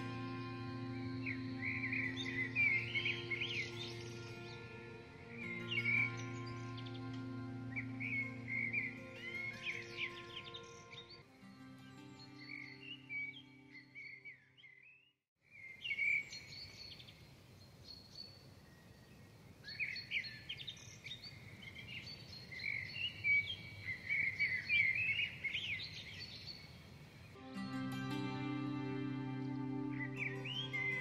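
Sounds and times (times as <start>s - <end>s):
steady background hiss: 0.0s - 11.8s, 15.6s - 31.0s
small birds chirping and singing: 0.0s - 31.0s.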